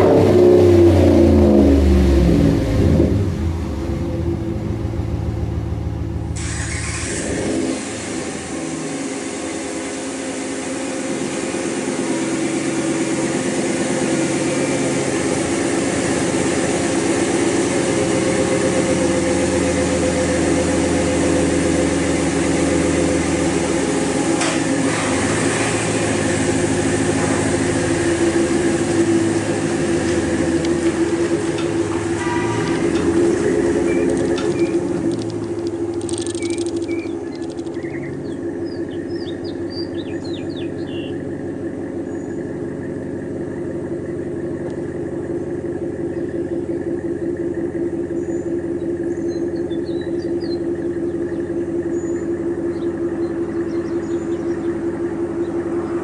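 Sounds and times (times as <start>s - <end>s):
engine exhaust rumble: 0.0s - 56.0s.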